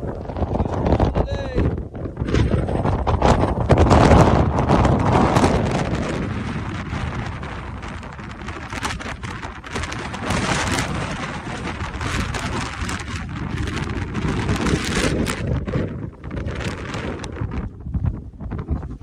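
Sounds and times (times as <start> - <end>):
dense crackling patter: 0.0 - 19.0
wind gusting over microphone: 0.0 - 19.0.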